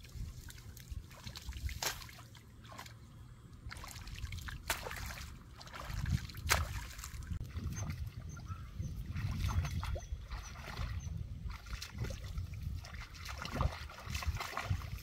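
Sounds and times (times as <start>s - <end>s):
sharp water splashes: 0.0s - 3.0s, 3.6s - 7.4s, 9.1s - 15.0s
mud and water sloshing: 0.0s - 15.0s.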